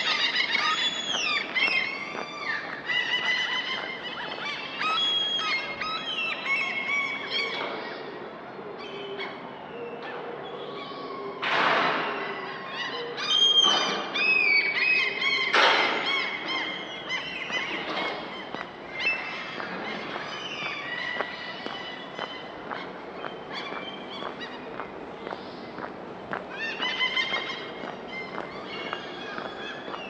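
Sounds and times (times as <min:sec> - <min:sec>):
birds chirping and whistling: 0:00.0 - 0:07.9, 0:12.2 - 0:30.0.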